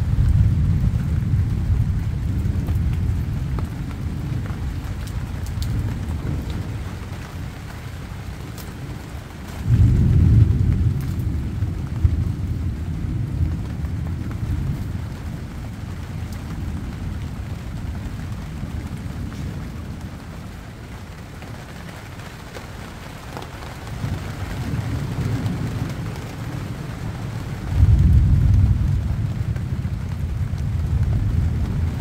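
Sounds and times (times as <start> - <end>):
steady low rumble: 0.0 - 21.0, 24.6 - 32.0
light rain pattering on leaves: 0.0 - 32.0.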